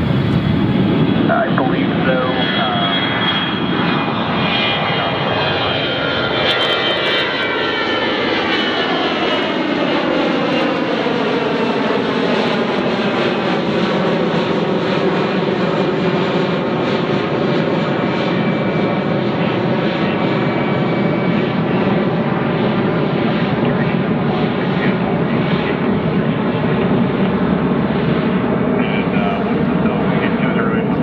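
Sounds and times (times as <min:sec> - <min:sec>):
jet airliner passing: 0:00.0 - 0:31.0.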